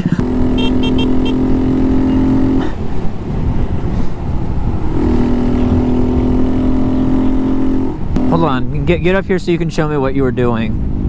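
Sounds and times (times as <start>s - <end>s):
motorcycle engine cruising: 0.0s - 11.0s
road noise rumbling: 0.0s - 11.0s.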